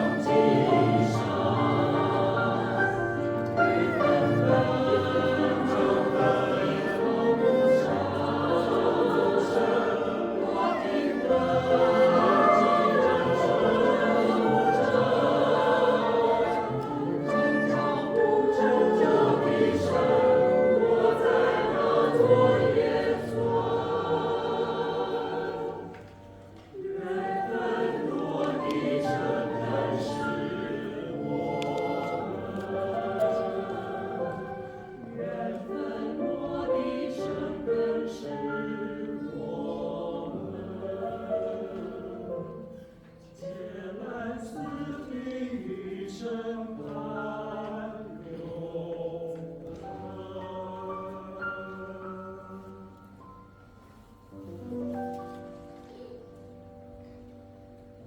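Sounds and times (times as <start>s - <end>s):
musical accompaniment: 0.0s - 48.6s
voices singing slow melody: 0.0s - 58.0s.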